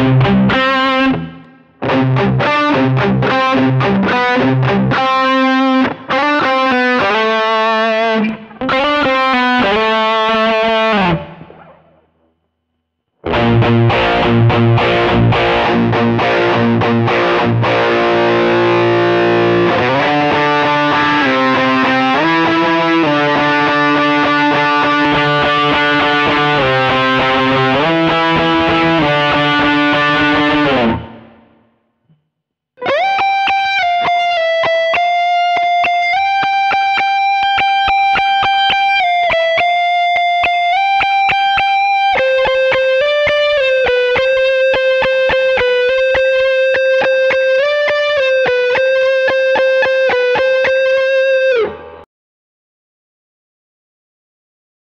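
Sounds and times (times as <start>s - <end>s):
distorted electric guitar: 0.0s - 12.4s, 13.1s - 32.1s, 32.8s - 52.1s.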